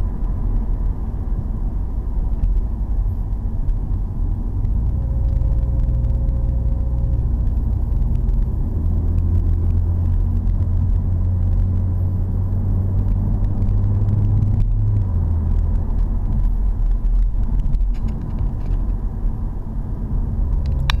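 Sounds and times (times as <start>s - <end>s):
car engine drone from inside cabin: 0.0s - 21.0s
tyre and road rumble: 0.0s - 21.0s.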